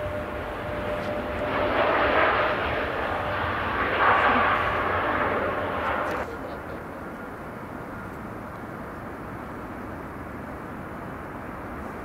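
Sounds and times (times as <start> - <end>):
jet engines rumbling with whine: 0.0 - 12.0.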